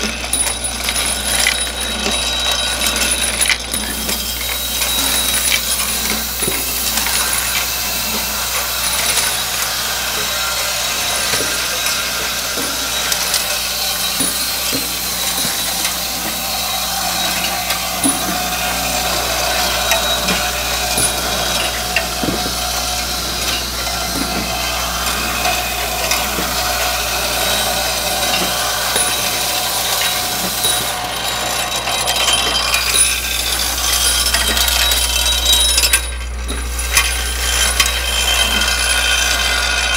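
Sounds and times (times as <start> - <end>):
steel bolts clattering: 0.2 - 39.9.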